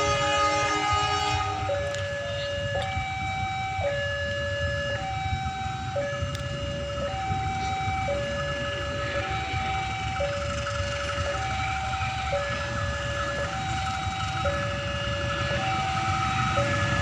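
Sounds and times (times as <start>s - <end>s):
electronic two-tone warning alarm: 0.0s - 17.0s.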